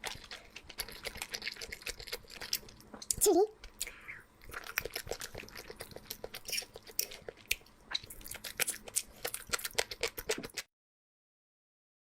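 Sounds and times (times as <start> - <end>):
chewing and crunching food: 0.0 - 10.7.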